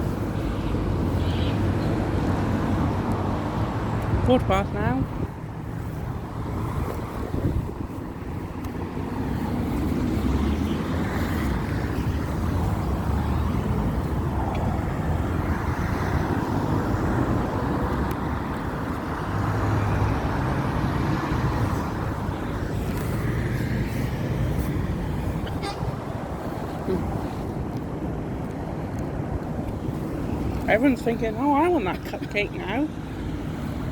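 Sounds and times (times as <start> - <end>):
road traffic passing: 0.0 - 33.9.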